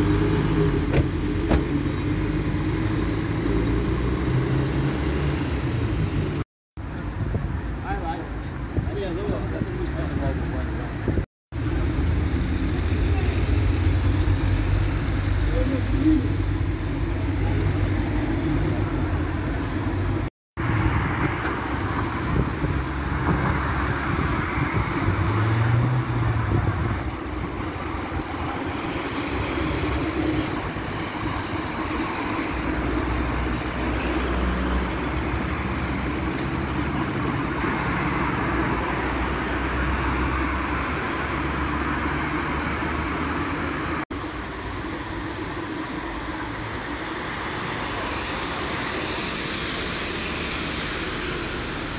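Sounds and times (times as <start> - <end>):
bus engine drone: 0.0 - 8.6, 10.2 - 51.9
road traffic noise: 0.0 - 51.9.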